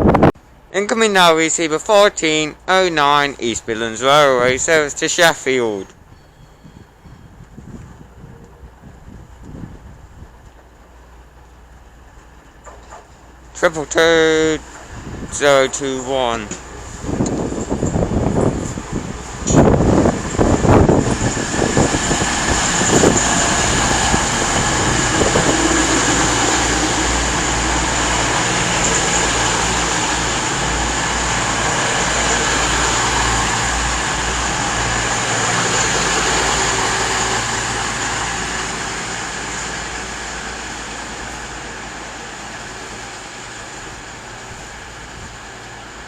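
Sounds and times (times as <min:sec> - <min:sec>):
diesel train engines running: 0:00.4 - 0:46.0
train clatter: 0:05.9 - 0:46.0.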